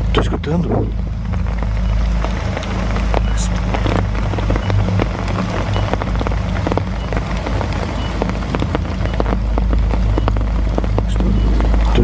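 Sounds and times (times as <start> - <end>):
heavy rain on leaves: 0.0 - 12.0
waterfall rushing: 1.1 - 12.0.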